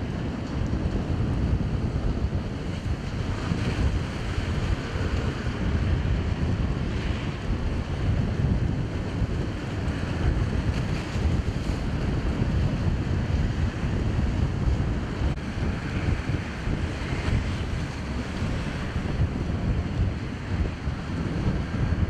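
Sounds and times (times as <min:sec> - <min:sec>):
choppy sea water: 0:00.0 - 0:22.0
wind buffeting microphone: 0:00.0 - 0:22.0.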